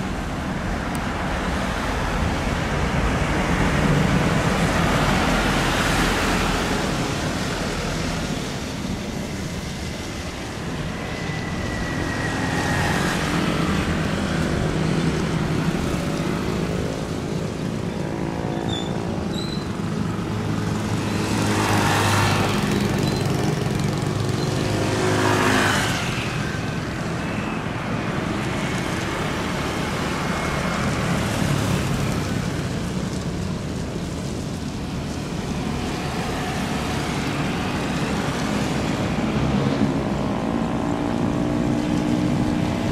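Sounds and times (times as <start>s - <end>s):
road traffic rushing: 0.0s - 42.9s
vehicles swishing past: 0.0s - 42.9s.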